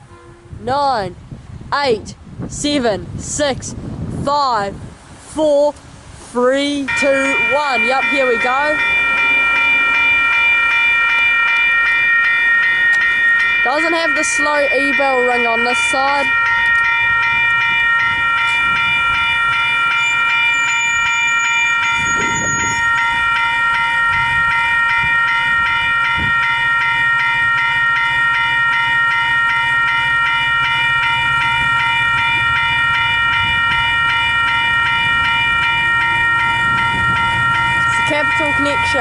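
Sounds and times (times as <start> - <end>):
level crossing bells ringing: 6.8 - 39.0
approaching train rumble: 6.9 - 39.0.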